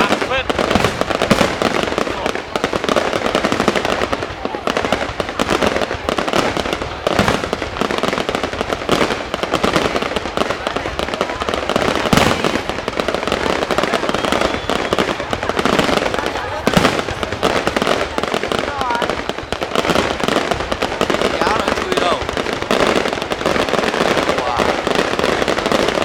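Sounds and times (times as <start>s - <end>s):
fireworks bangs: 0.0s - 26.0s
fireworks crackling and popping: 0.0s - 26.0s.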